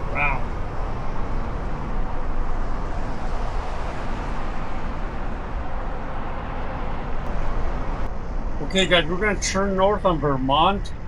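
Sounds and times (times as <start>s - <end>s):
road noise: 0.0s - 11.0s
rushing wind: 0.0s - 11.0s
traffic: 0.0s - 11.0s.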